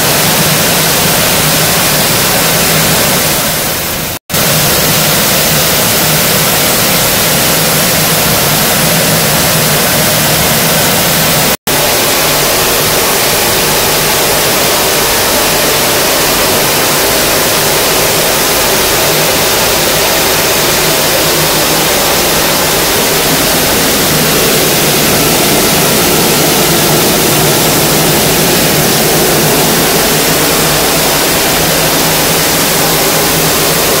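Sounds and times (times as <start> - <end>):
sorting machine hissing: 0.0 - 34.0.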